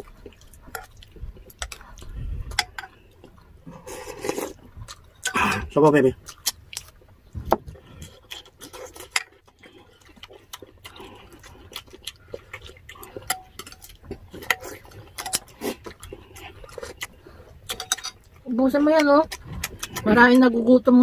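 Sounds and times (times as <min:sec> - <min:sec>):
chewing and mouth noises: 0:00.0 - 0:21.0.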